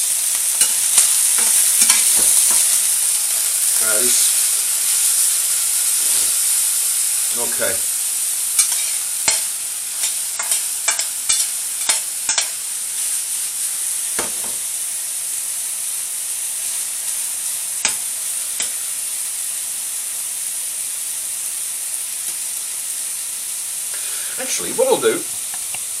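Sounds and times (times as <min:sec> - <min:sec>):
meat sizzling in a pan: 0:00.0 - 0:26.0.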